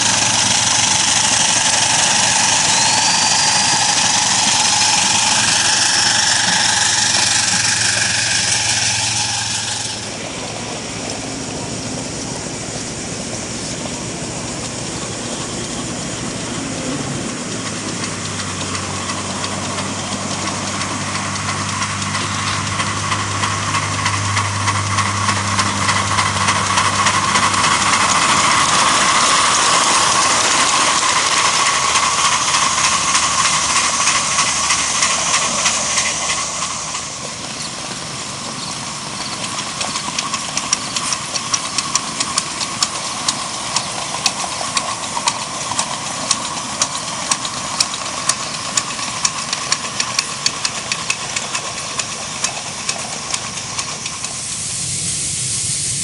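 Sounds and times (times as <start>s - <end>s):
low hum: 0.0s - 50.8s
loud steam hiss: 0.0s - 56.0s
steam locomotive exhaust chuffs: 0.0s - 56.0s.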